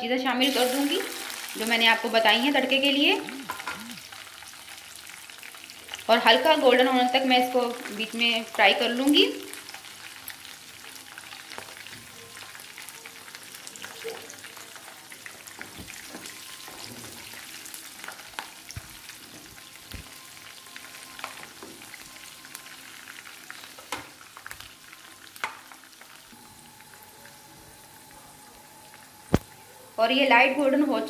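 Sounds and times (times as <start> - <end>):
spices sizzling in hot oil: 0.4 - 31.0.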